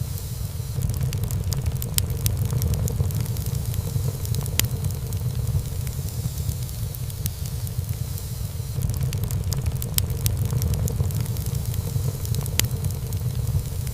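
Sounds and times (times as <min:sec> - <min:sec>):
burning wood crackling and popping: 0:00.0 - 0:13.9
fire flames rumbling: 0:00.0 - 0:13.9.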